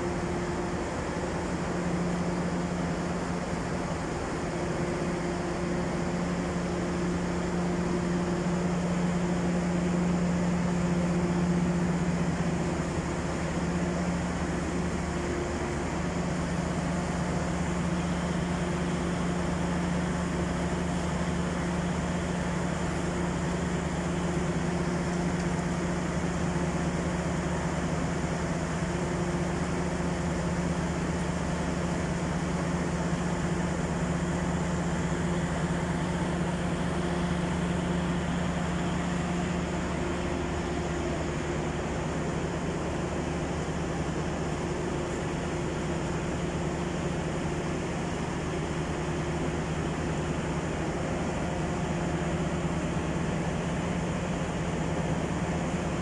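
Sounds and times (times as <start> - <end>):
train engine droning hum: 0.0 - 56.0.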